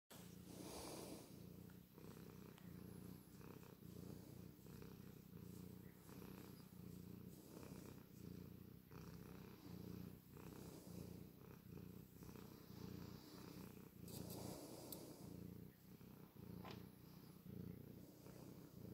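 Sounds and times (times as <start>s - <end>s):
cat purring: 0.1s - 18.9s.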